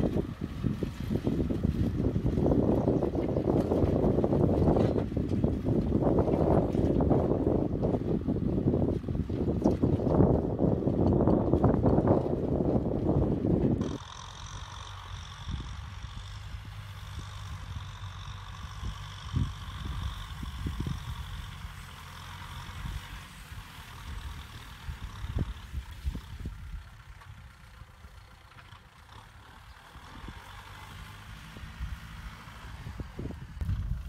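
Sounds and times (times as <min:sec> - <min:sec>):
wind buffeting microphone: 0:00.0 - 0:14.0, 0:15.4 - 0:27.8, 0:30.2 - 0:34.0
tractor diesel engine under load: 0:00.0 - 0:34.0.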